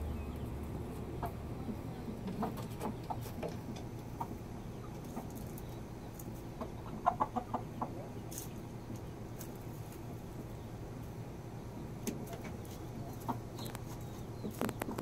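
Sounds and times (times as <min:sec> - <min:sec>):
chicken clucking: 0:01.0 - 0:10.7, 0:11.6 - 0:15.0.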